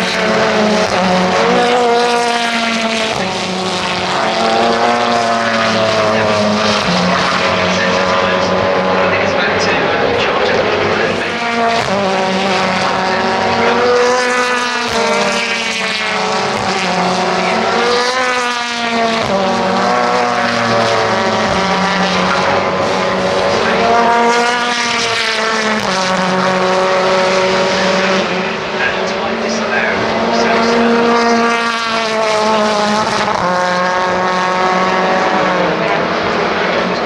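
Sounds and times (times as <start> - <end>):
race car engines accelerating: 0.0 - 37.0.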